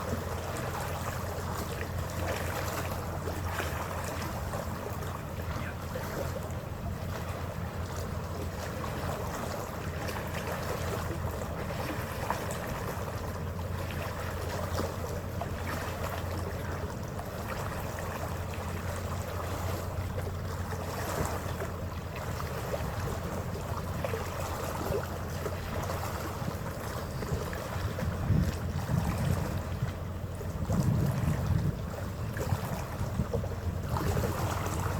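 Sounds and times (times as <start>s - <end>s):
ferry engine drone: 0.0s - 34.9s
water rushing along hull: 0.0s - 34.9s
wind: 0.0s - 34.9s.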